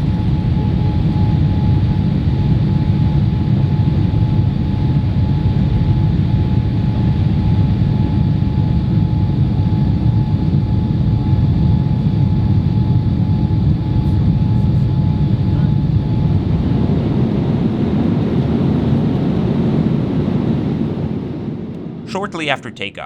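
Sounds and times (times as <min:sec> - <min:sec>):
jet engine roar in cabin: 0:00.0 - 0:23.0.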